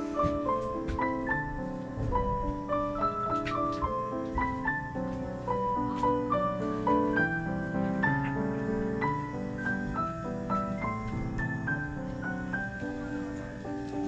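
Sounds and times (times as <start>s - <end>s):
piano melody over chords: 0.0s - 14.0s.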